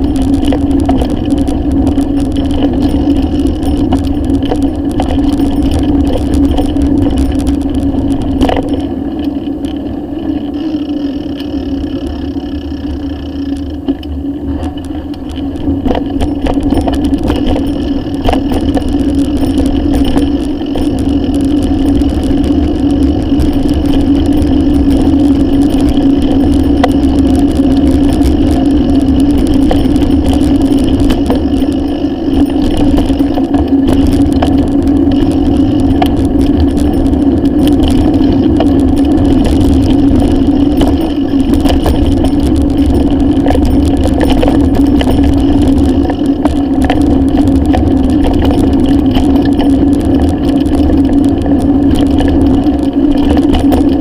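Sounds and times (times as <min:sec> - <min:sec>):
bicycle riding drone: 0:00.0 - 0:54.0
bike knocks and rattles: 0:00.0 - 0:54.0.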